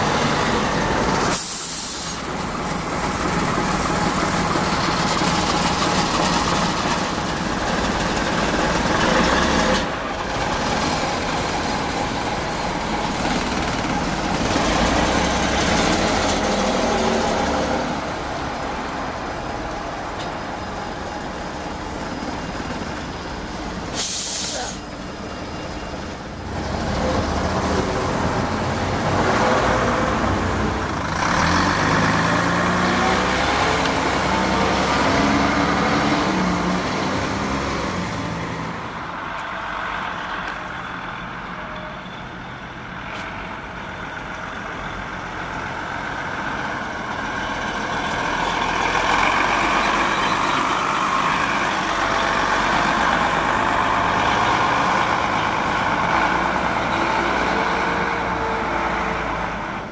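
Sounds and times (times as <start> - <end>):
diesel bus engine: 0.0 - 59.9.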